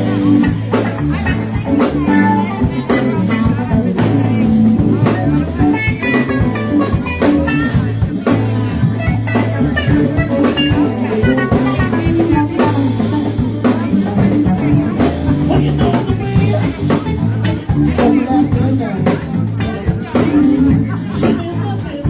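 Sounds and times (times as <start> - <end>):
bass guitar: 0.0 - 22.0
drum kit beat: 0.0 - 22.0
electric guitar: 0.0 - 22.0.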